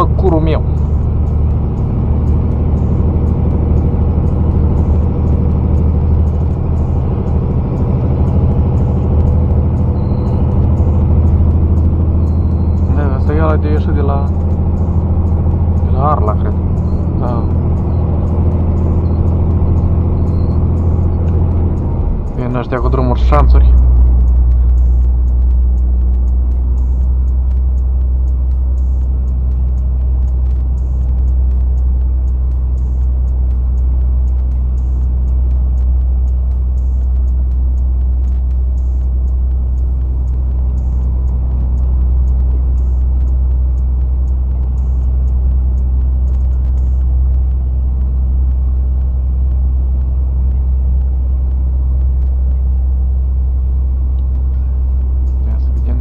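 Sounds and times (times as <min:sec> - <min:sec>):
diesel engine drone: 0:00.0 - 0:56.0
faint regular ticking: 0:00.4 - 0:56.0.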